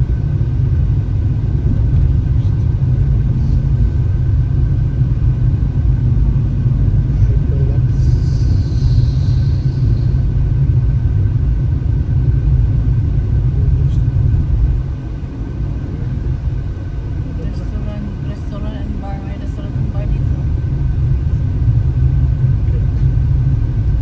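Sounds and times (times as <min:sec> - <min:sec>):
car engine rumbling uphill: 0:00.0 - 0:24.0.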